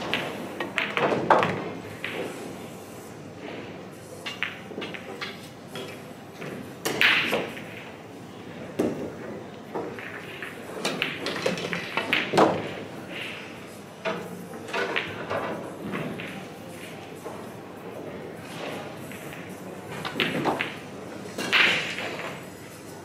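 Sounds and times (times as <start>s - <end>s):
pool balls clicking: 0.0s - 2.6s, 4.2s - 8.0s, 8.6s - 22.6s.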